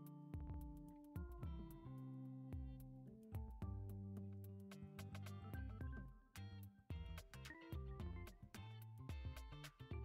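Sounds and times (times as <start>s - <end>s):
instrumental music with bass: 0.0s - 10.0s.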